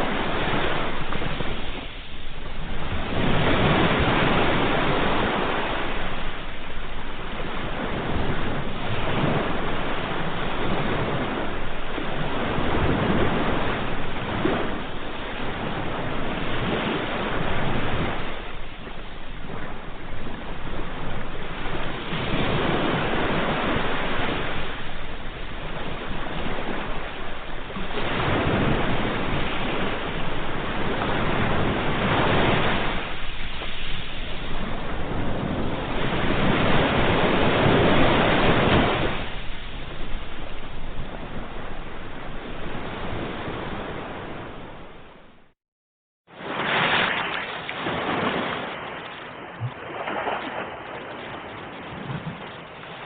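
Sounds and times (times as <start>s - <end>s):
ocean waves breaking on shore: 0.0s - 45.6s, 46.3s - 53.0s.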